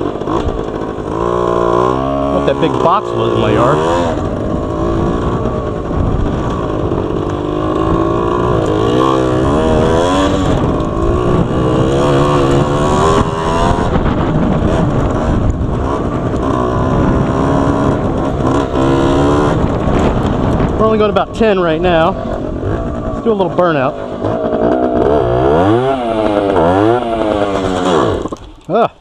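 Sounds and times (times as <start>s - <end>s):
two-stroke motorcycle engine revving: 0.0s - 28.5s.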